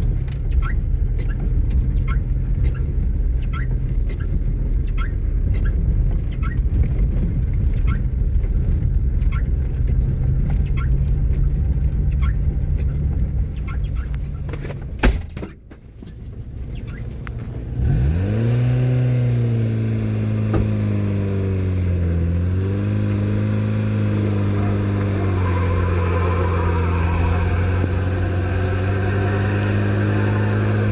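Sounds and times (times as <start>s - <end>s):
car engine humming: 0.0s - 15.0s, 17.0s - 30.9s.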